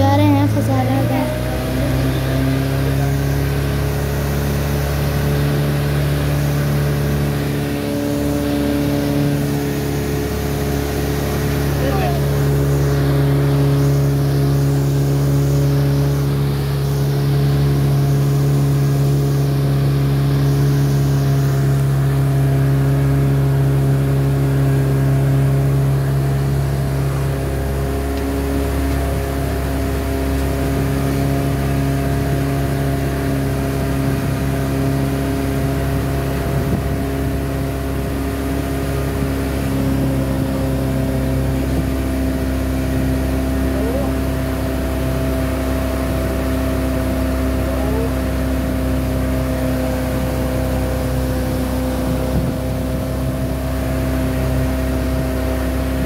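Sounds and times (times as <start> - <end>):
motorboat engine humming: 0.0 - 56.0.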